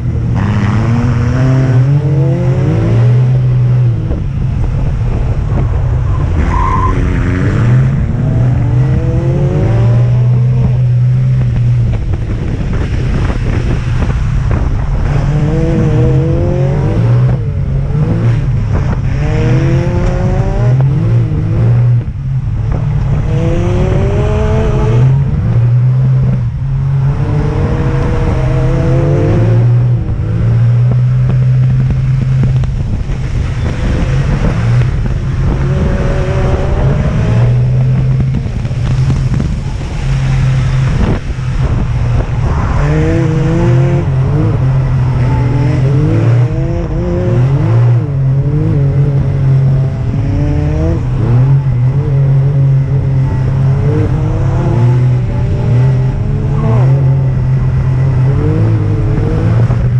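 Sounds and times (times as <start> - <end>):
utility vehicle engine revving: 0.0 - 59.9.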